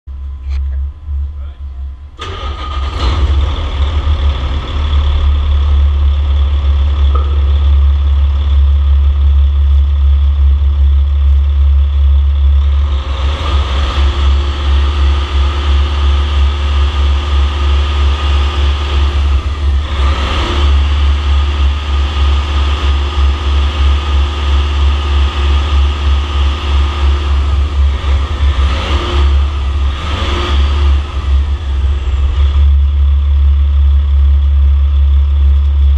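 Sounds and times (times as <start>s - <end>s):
diesel truck engine idling and revving: 0.1s - 35.9s.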